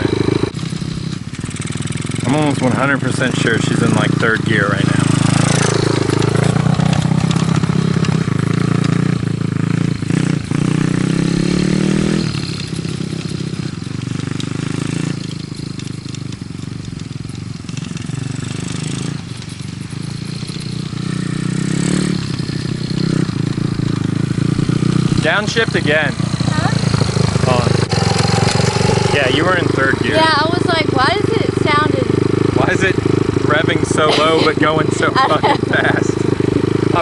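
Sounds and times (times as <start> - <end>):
dirt bike engine lugging: 0.0 - 37.0.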